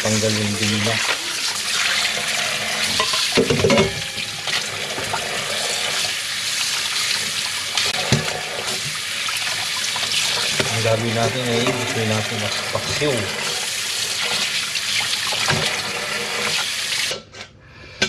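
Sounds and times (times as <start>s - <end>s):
faucet running into a sink: 0.0s - 17.1s.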